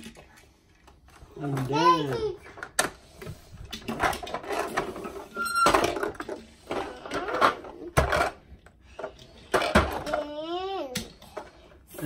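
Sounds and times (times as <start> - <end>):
toy cars clicking and rattling: 0.0 - 12.0.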